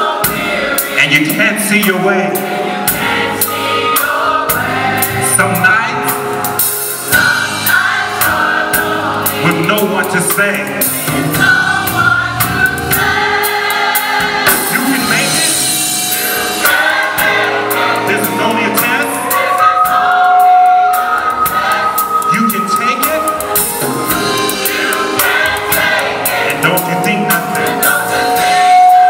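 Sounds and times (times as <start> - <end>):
gospel choir singing: 0.0 - 29.0.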